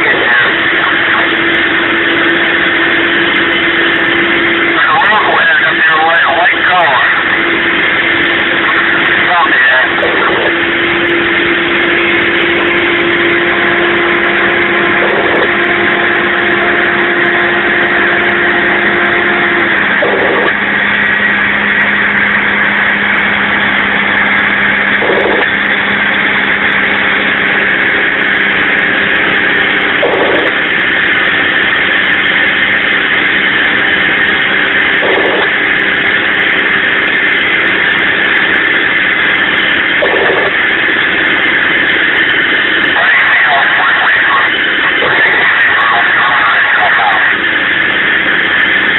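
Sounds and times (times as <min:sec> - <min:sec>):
dump truck diesel engine: 0:00.0 - 0:48.9.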